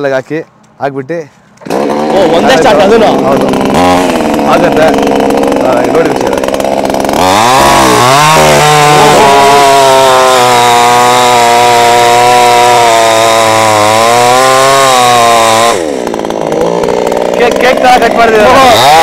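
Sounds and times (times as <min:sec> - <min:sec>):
chainsaw revving and cutting wood: 0:01.6 - 0:19.0.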